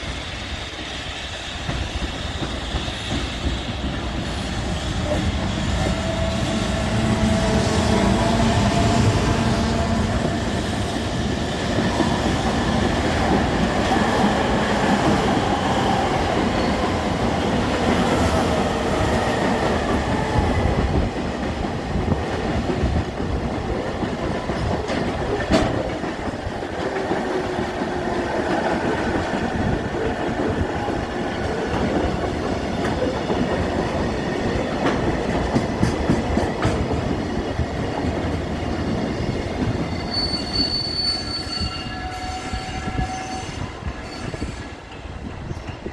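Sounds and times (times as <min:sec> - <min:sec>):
freight train wagons on rails: 0:00.0 - 0:45.9.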